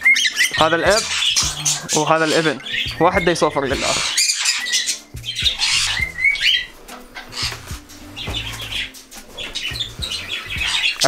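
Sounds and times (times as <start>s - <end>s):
cockatiels squawking and chirping: 0.0s - 11.0s.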